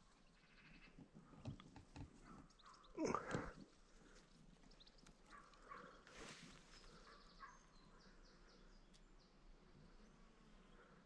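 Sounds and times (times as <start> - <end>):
distant songbird chirps: 0.0 - 11.0.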